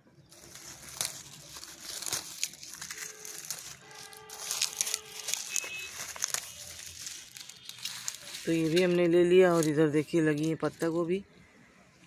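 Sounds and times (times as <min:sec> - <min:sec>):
lettuce leaves snapping: 0:00.3 - 0:11.0.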